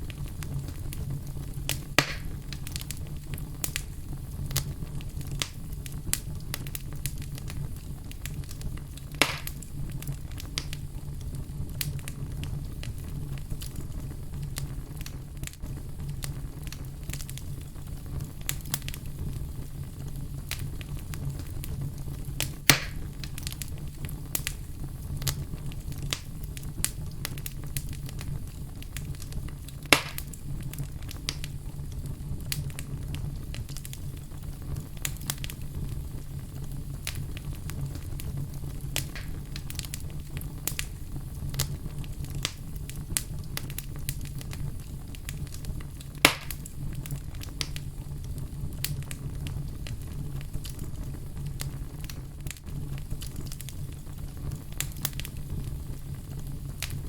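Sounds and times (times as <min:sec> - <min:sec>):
fire crackling: 0:00.0 - 0:57.0
fire popping: 0:00.0 - 0:57.0.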